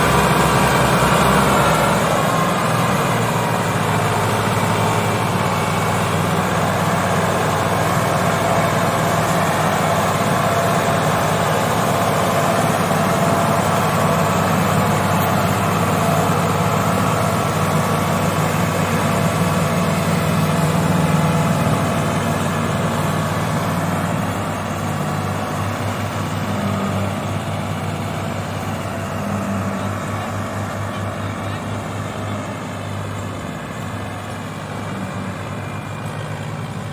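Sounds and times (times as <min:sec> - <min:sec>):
tractor diesel engine under load: 0:00.0 - 0:36.9.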